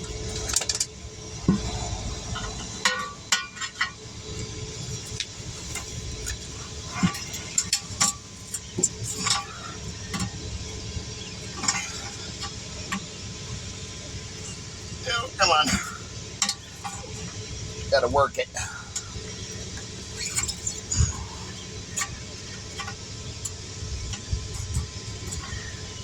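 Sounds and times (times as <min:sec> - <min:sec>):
tire tools clinking on wheel rim: 0:00.0 - 0:26.0.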